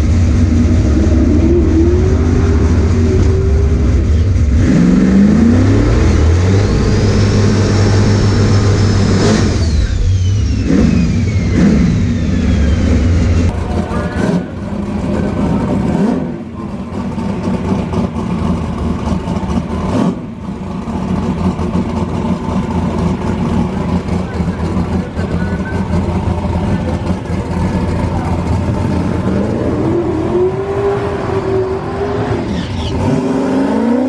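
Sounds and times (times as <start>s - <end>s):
race car engine accelerating: 0.0s - 34.0s.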